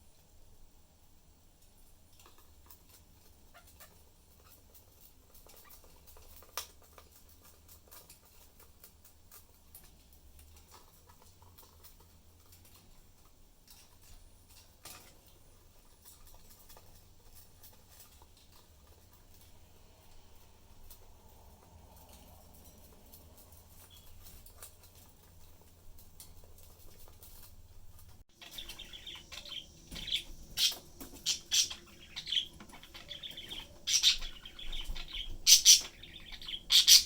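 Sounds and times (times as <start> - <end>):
budgies tapping in cage: 2.2 - 19.5, 21.9 - 37.0
low steady hum: 4.2 - 37.0.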